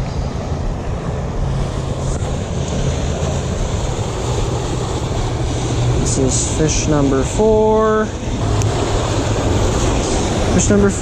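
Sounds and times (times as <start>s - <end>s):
steady low hum: 0.0s - 11.0s
wind on microphone: 0.0s - 11.0s.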